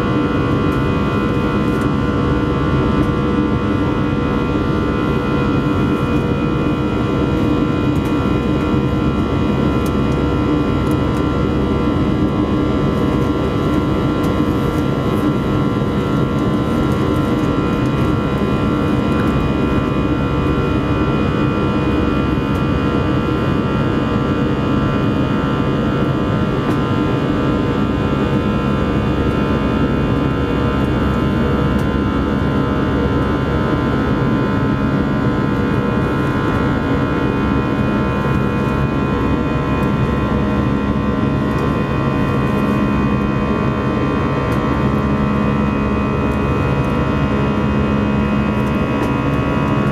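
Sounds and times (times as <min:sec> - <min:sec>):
jet engine roar in cabin: 0:00.0 - 0:49.9.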